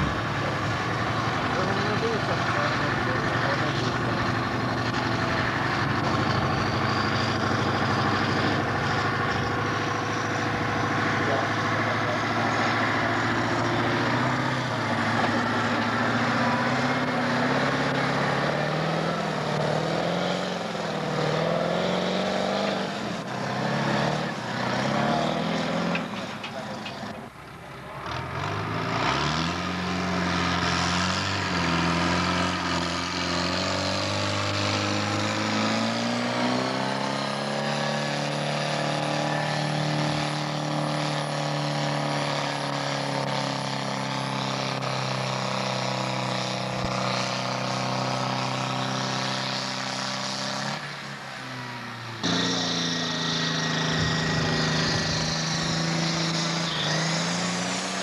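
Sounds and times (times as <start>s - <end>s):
tractor engine at full throttle: 0.0s - 58.0s.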